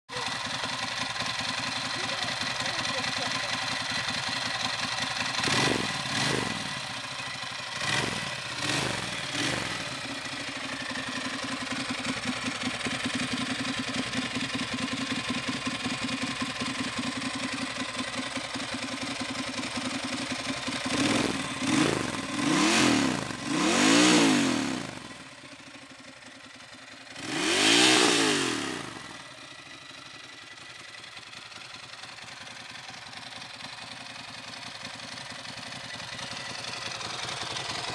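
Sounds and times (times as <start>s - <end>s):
motorcycle engine idling and revving: 0.1s - 37.9s.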